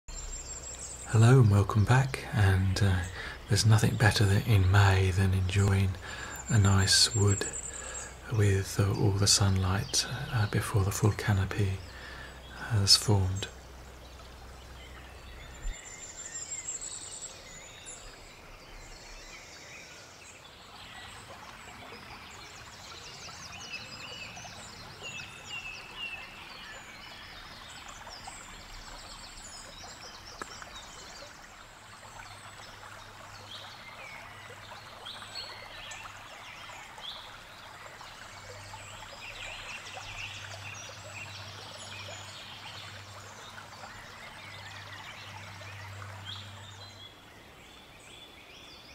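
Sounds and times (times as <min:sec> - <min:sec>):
birds singing and calling: 0:00.1 - 0:48.9
faint steady hiss: 0:00.1 - 0:48.9.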